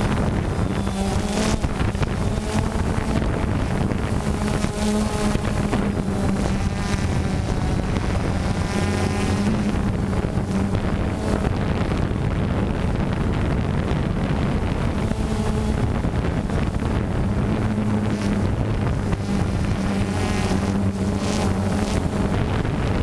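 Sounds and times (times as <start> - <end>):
drone motors droning: 0.0 - 23.0
wind rushing over microphone: 0.0 - 23.0.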